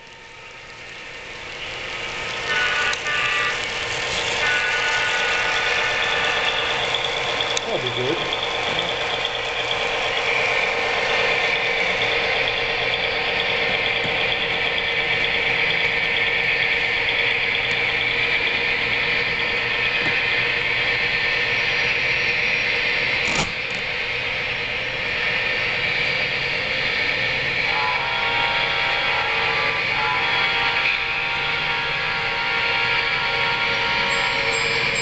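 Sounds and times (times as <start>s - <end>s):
model trains whirring on rails: 0.0s - 35.0s.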